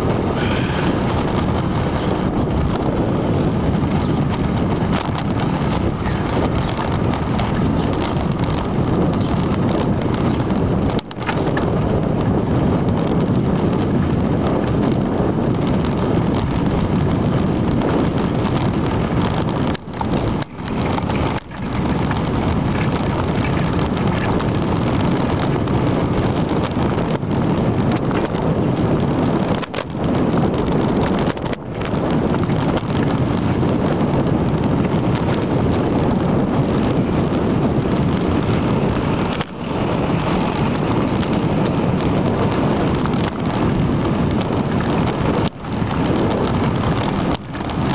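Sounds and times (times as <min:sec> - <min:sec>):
wind rumbling on microphone: 0:00.0 - 0:47.9.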